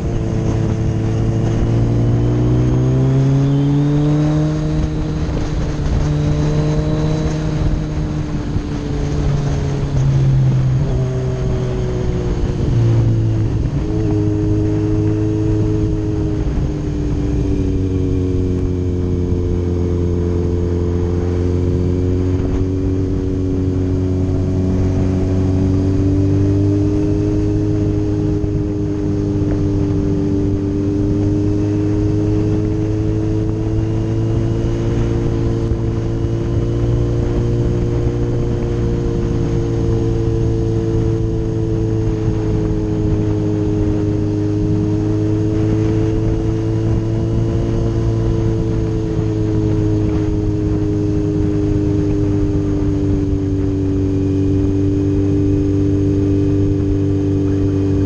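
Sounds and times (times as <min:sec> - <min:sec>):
constant low rumble: 0:00.0 - 0:58.0
motorcycle engine cruising: 0:00.0 - 0:58.0.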